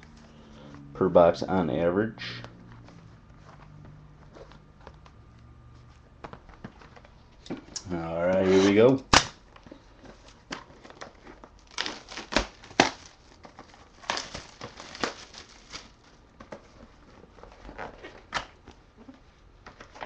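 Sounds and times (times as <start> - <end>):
plastic wrap crinkling: 2.6 - 19.2.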